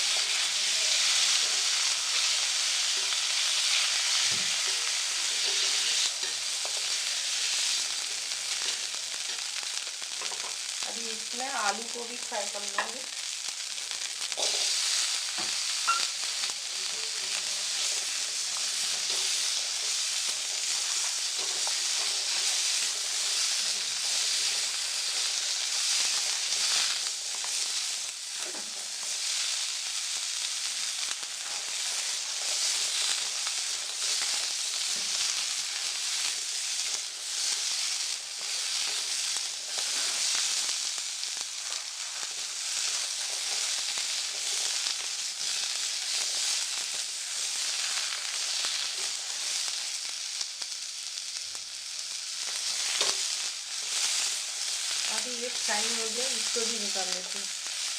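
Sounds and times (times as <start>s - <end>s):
potatoes sizzling in hot oil: 0.0s - 57.9s.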